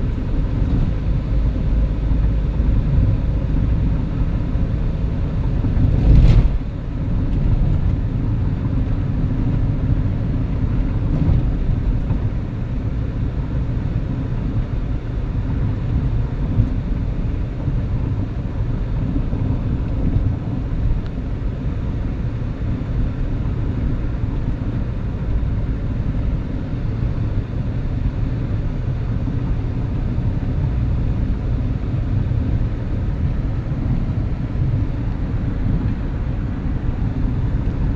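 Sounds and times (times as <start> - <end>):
car road and engine rumble: 0.0 - 37.9.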